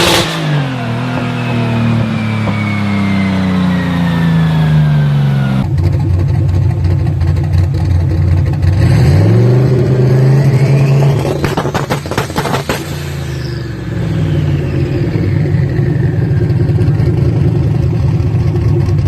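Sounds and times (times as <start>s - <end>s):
car engine revving: 0.0s - 19.0s
exhaust crackling: 0.0s - 19.0s.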